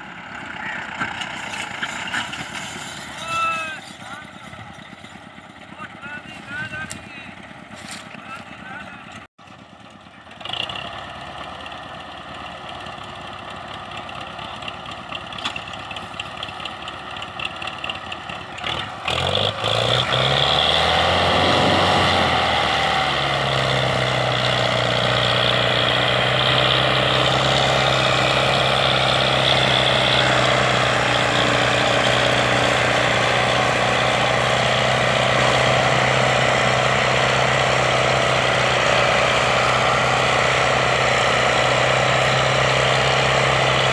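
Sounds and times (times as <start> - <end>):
tractor diesel engines revving: 0.0 - 43.9.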